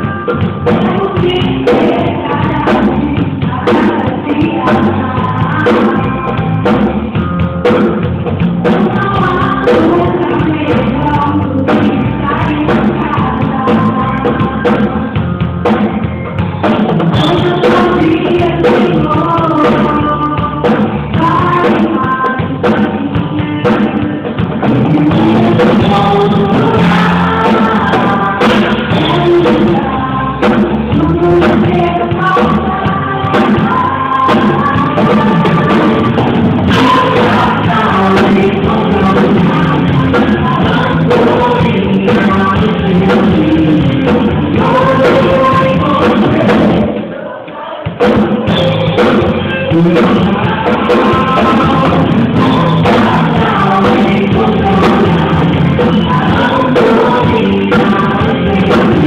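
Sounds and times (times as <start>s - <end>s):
person singing: 0.0s - 7.0s, 8.6s - 59.0s
band with drum kit: 0.0s - 59.0s.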